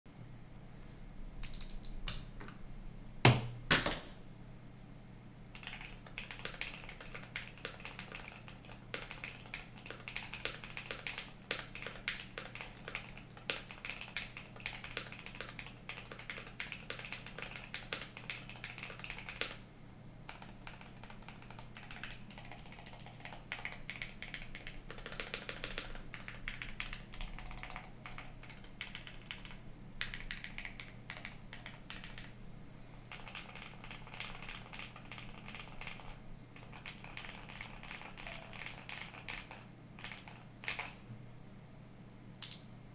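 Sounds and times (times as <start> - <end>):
mechanical keyboard typing: 1.4 - 2.2, 5.5 - 19.6, 20.3 - 32.4, 33.1 - 41.0.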